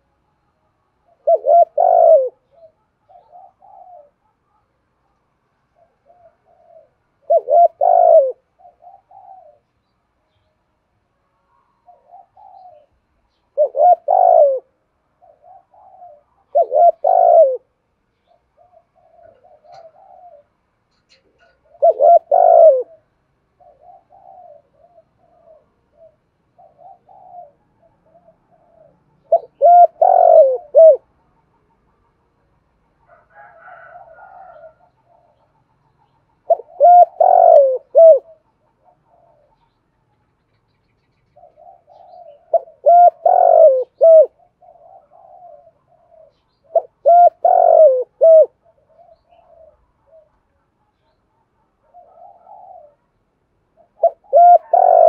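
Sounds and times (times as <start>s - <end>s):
dove cooing: 1.0s - 4.8s, 5.6s - 9.8s, 11.4s - 32.3s, 33.0s - 40.0s, 41.2s - 55.0s.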